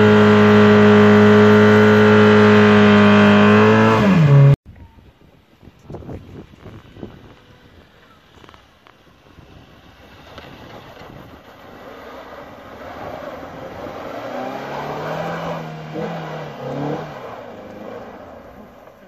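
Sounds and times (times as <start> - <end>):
car engine revving uphill: 0.0 - 4.6, 7.3 - 19.0.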